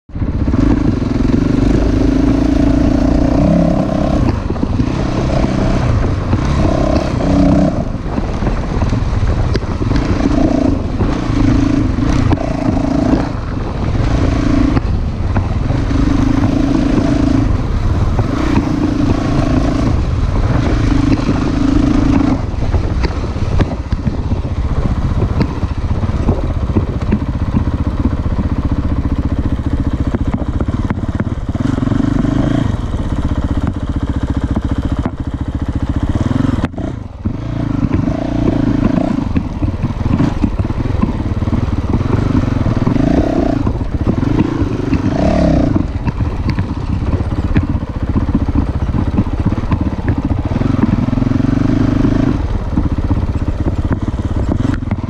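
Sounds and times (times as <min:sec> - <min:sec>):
dirt bike engine: 0:00.1 - 0:55.0
low rushing noise: 0:00.1 - 0:55.0.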